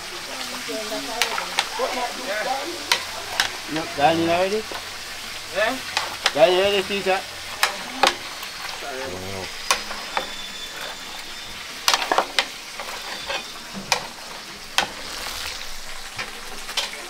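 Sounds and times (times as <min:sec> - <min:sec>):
pot of food bubbling: 0:00.0 - 0:17.0.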